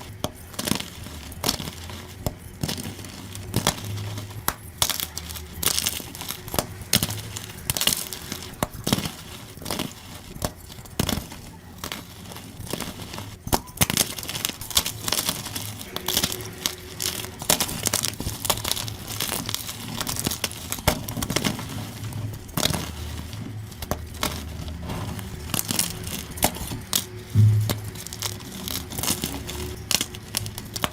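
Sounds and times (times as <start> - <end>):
chalk crunching and crackling: 0.0 - 30.9.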